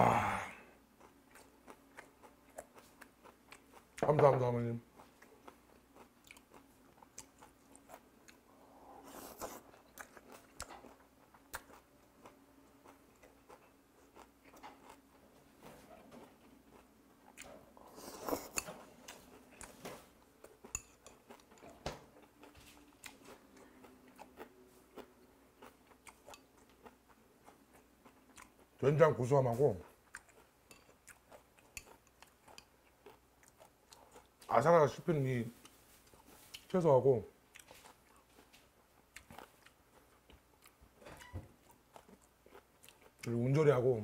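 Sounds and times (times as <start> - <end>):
chewing and crunching food: 0.2 - 44.0.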